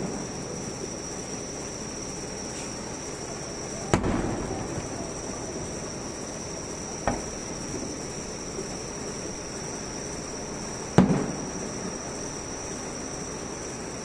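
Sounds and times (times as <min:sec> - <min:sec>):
fireworks bursts: 0:00.0 - 0:13.9
insects trilling: 0:00.0 - 0:14.0.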